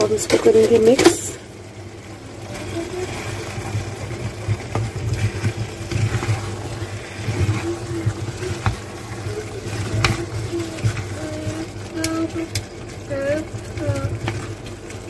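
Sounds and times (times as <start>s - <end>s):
steady low hum: 0.0s - 15.0s
wooden spoon stirring wet curry: 0.0s - 15.0s.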